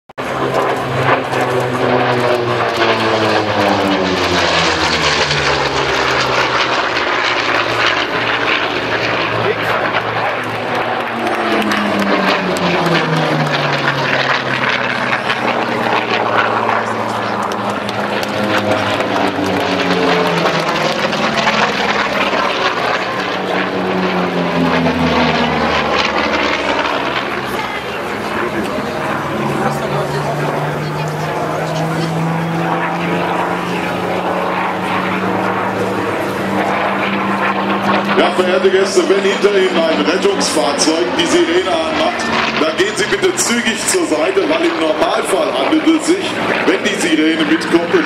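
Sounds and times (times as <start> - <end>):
propeller plane engine droning: 0.2 - 48.0.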